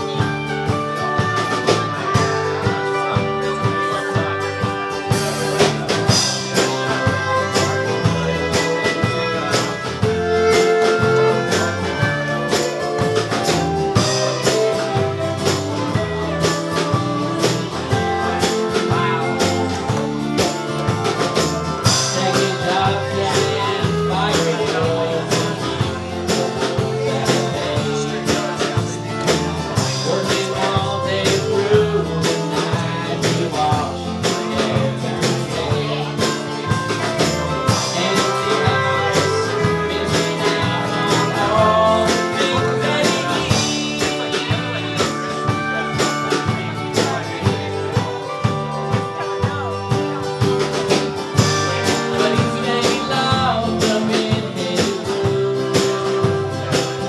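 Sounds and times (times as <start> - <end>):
electric bass: 0.0 - 57.0
strummed acoustic guitar: 0.0 - 57.0.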